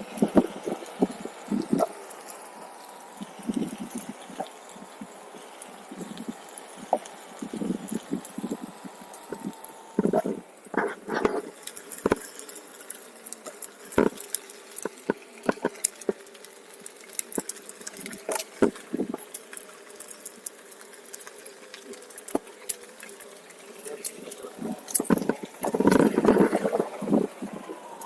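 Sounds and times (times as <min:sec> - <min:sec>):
electric motor hum: 0:00.0 - 0:28.0.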